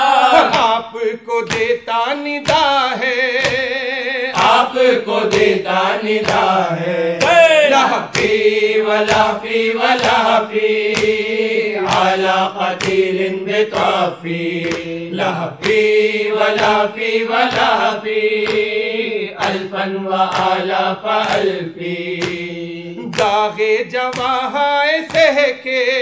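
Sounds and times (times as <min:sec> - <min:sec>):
voices chanting in chorus: 0:00.0 - 0:26.0
chest-beating slaps: 0:00.3 - 0:25.5.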